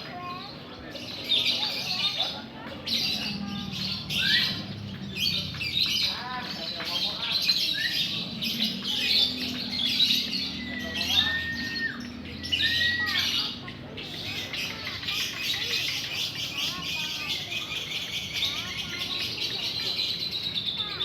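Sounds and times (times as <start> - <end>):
lovebirds chirping and trilling: 0.0 - 21.0.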